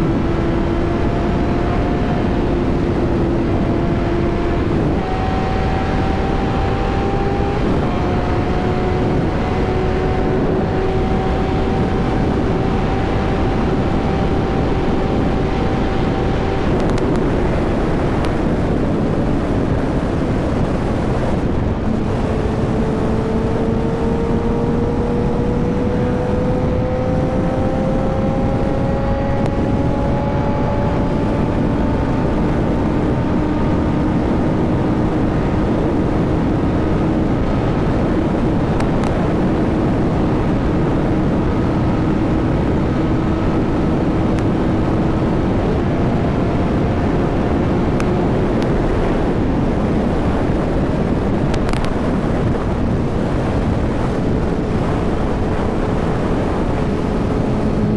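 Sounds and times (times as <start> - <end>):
motorcycle engine: 0.0 - 57.9
wind and road noise: 0.0 - 57.9.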